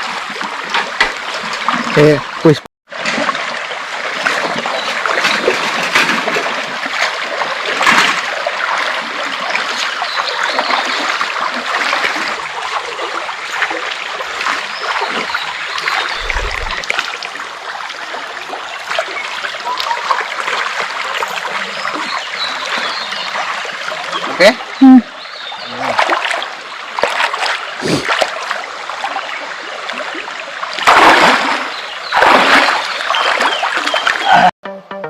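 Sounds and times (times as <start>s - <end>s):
stream water flowing and splashing: 0.0s - 34.5s.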